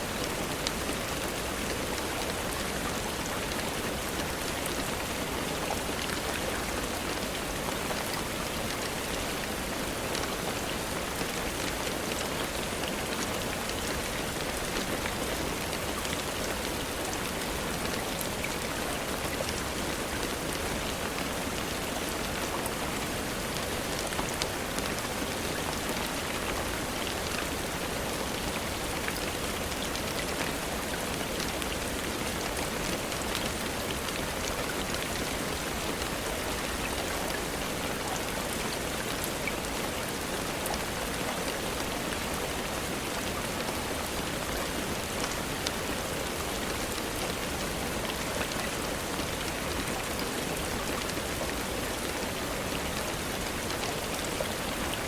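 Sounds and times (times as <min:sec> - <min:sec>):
rain hissing on a surface: 0:00.0 - 0:55.0.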